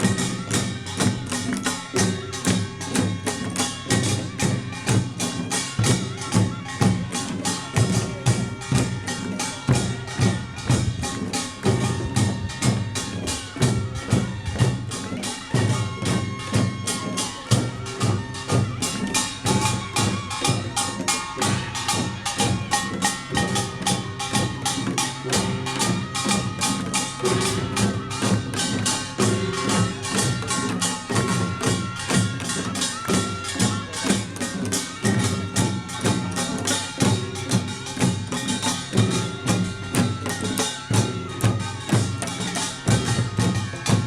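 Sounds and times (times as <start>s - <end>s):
drums: 0.0s - 44.0s
percussion band playing: 0.0s - 44.0s
small gongs clanging: 0.0s - 44.0s.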